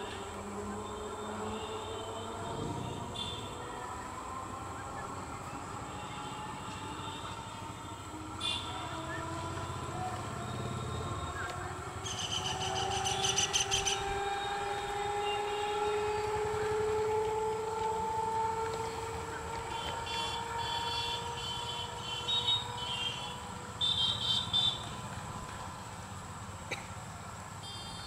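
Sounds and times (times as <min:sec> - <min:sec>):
rising motor whine: 0:00.0 - 0:23.8.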